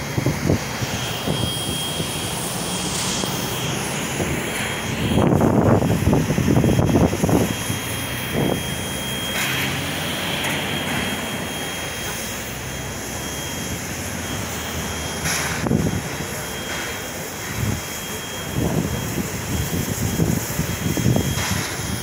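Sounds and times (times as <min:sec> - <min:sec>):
steam locomotive rumbling past: 0:00.0 - 0:22.0.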